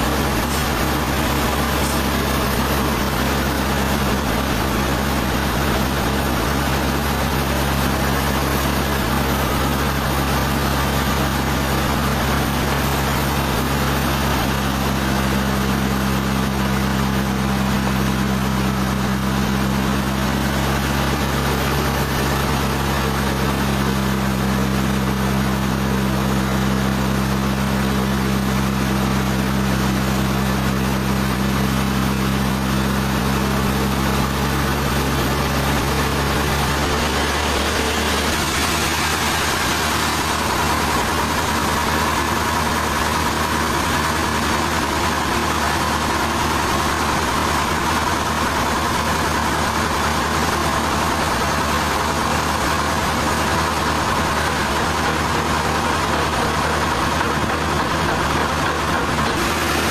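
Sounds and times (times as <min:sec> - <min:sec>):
sawmill machinery hum: 0:00.0 - 0:59.9.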